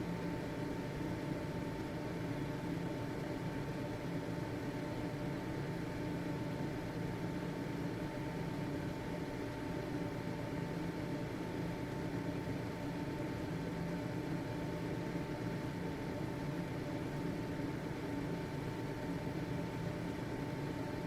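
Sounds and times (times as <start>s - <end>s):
ventilation fan running: 0.0s - 21.0s.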